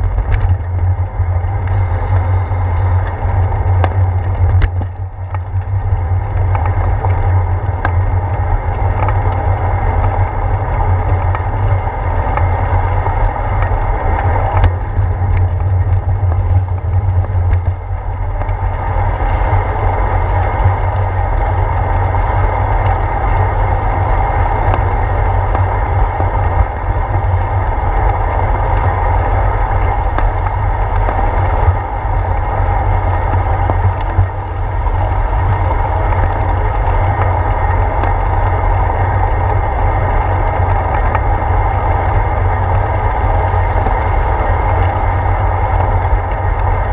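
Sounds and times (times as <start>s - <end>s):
bicycle road noise on wet pavement: 0.0s - 46.9s
wind rumble: 0.0s - 46.9s.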